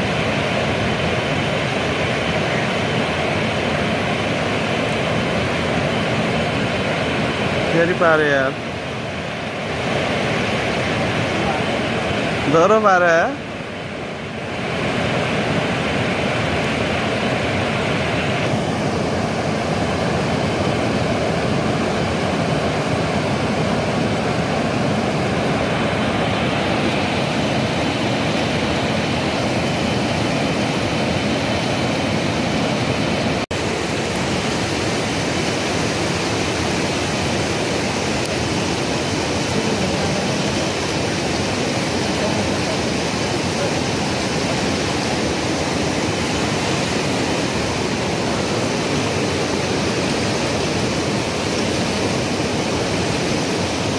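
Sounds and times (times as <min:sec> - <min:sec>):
fast-flowing river: 0:00.0 - 0:53.9.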